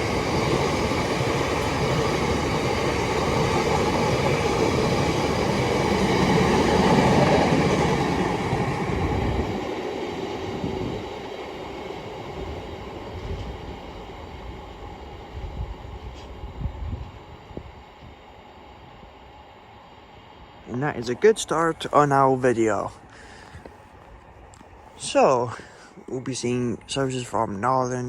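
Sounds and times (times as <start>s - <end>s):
train passing: 0.0s - 28.0s.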